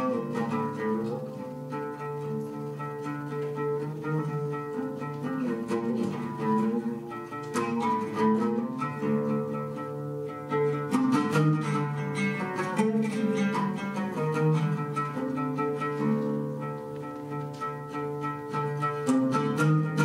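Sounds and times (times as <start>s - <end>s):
oud played with a plectrum: 0.0s - 20.0s.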